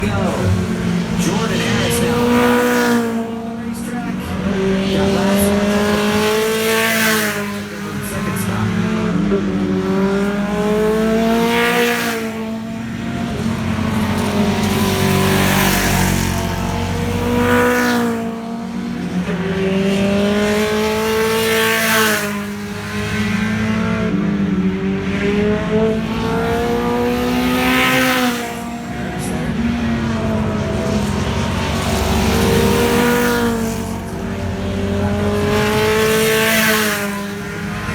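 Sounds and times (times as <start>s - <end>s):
race cars racing past: 0.0s - 37.9s.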